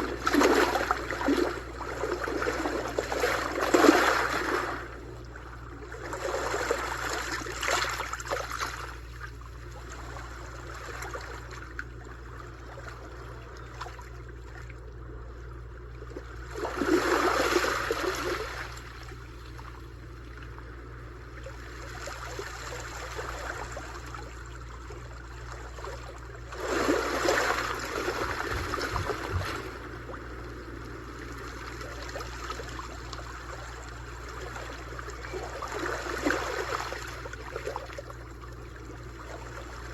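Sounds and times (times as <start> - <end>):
sea waves breaking on shore: 0.0 - 11.8, 16.1 - 19.9, 21.2 - 39.9
steady low rumble: 0.0 - 39.9.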